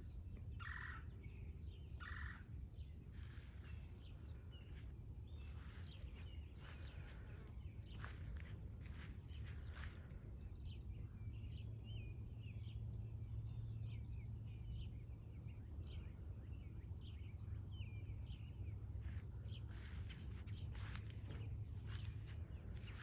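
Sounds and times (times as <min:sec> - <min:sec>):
songbirds singing and chirping: 0:00.0 - 0:23.0
steady low rumble: 0:01.3 - 0:23.0.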